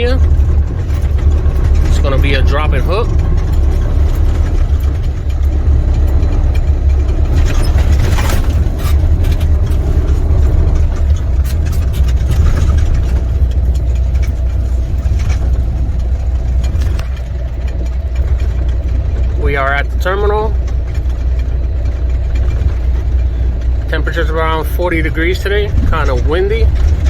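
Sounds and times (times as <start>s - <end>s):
diesel truck engine rumbling: 0.0s - 27.0s
knocks and rattles: 0.0s - 27.0s.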